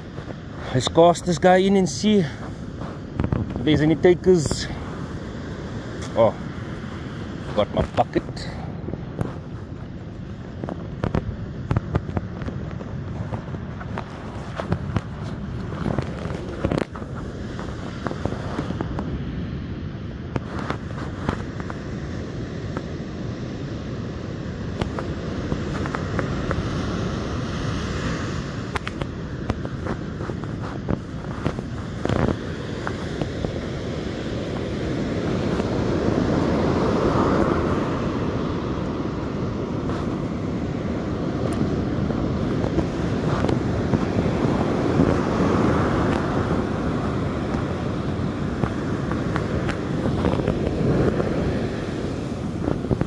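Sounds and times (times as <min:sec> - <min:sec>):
surf breaking on beach: 0:00.0 - 0:19.7, 0:23.8 - 0:53.0
wind on microphone: 0:00.0 - 0:53.0.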